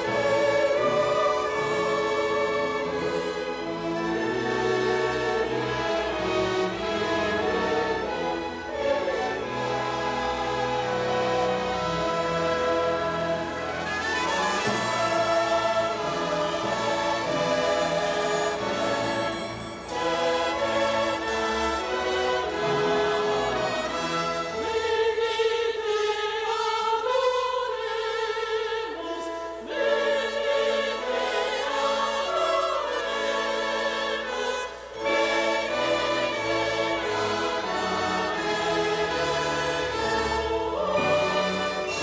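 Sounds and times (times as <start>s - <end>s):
female operatic soloists singing: 0.0s - 42.0s
girls' choir singing: 0.0s - 42.0s
symphony orchestra playing: 0.0s - 42.0s.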